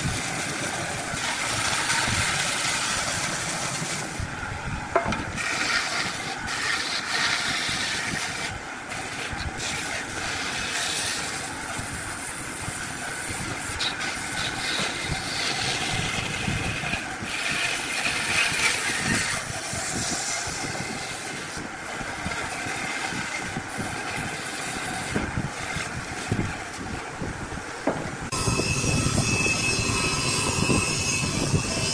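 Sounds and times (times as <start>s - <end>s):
wood lathe cutting wood: 0.0s - 27.0s, 27.9s - 31.9s.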